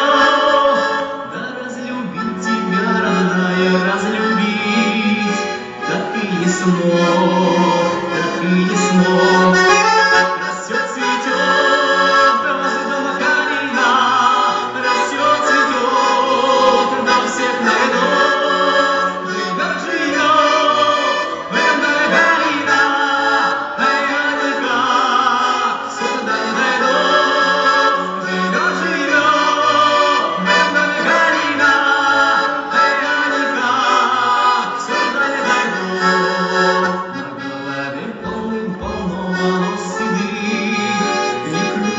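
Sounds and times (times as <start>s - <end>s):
accordion melody: 0.0s - 41.9s.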